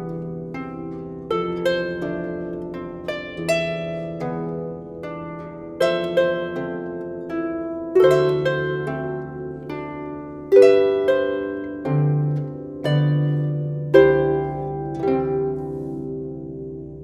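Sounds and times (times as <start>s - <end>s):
harp playing slow solo tune: 0.0s - 17.0s.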